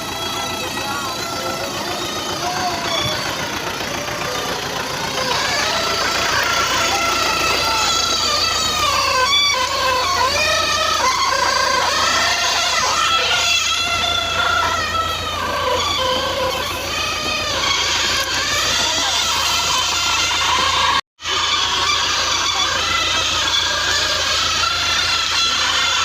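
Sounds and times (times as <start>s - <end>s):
engine running: 0.0s - 26.0s
wavering pitched sounds: 0.0s - 26.0s.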